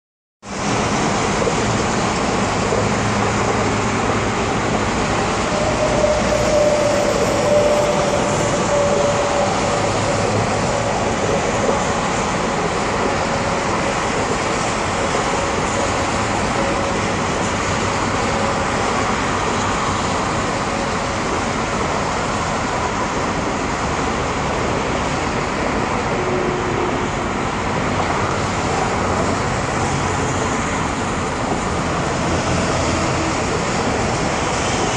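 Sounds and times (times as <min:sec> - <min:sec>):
expressway traffic noise: 0:00.4 - 0:34.9.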